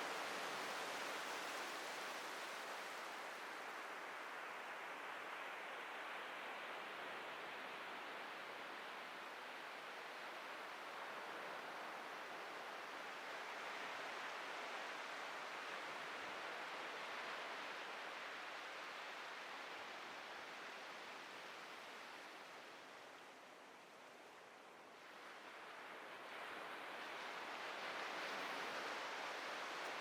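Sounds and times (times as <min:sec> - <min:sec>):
ocean surf washing on beach: 0:00.0 - 0:30.0.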